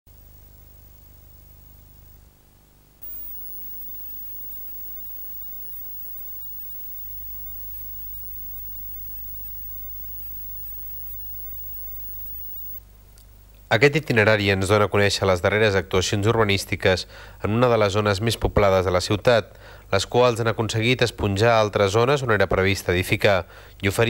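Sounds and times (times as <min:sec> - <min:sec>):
low electrical hum: 0:00.1 - 0:24.0
tape hiss: 0:00.1 - 0:24.0.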